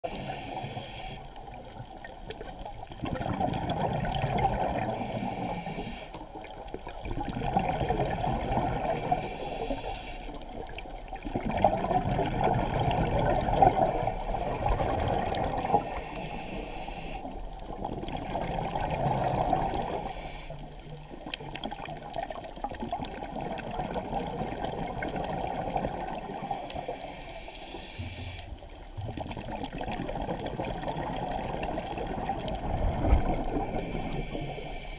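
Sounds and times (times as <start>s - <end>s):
underwater breathing bubbles: 0.0s - 34.9s.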